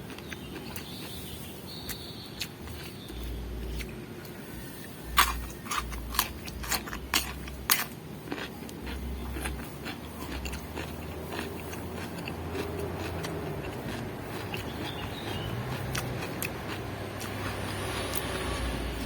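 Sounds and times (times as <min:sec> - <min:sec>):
crunching bites into vegetables: 0:00.0 - 0:04.4, 0:05.0 - 0:18.6
quiet chewing: 0:00.0 - 0:18.6.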